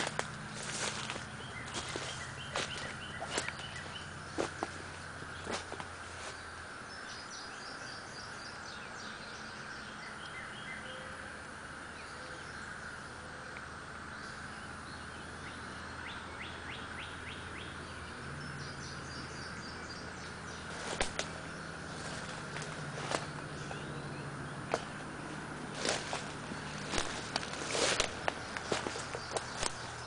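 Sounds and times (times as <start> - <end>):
birds chirping: 0.0 - 30.0
faint low hum: 0.0 - 30.0
steady outdoor hiss: 0.0 - 30.0.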